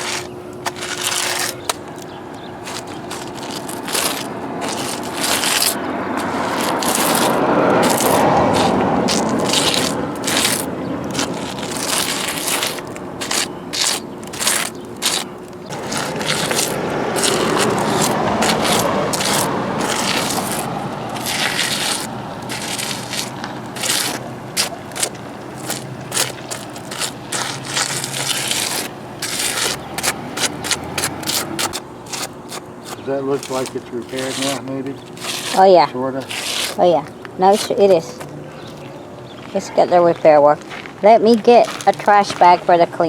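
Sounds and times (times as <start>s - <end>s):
tool scraping wet concrete: 0.0s - 38.9s, 40.7s - 42.9s.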